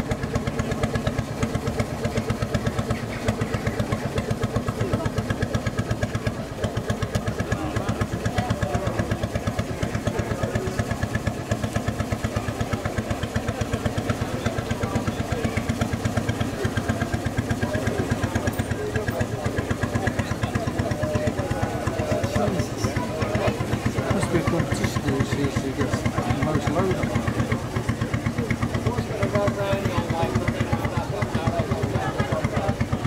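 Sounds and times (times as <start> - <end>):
boat engine thumping: 0.0 - 33.0.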